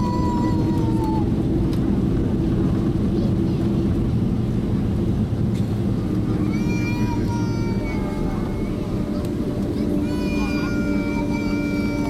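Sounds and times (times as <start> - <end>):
aircraft cabin low rumble: 0.0 - 12.0.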